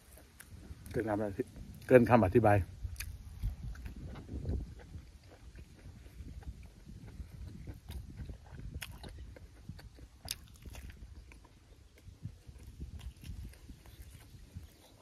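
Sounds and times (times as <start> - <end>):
man chewing with wet mouth sounds: 0.0 - 15.0.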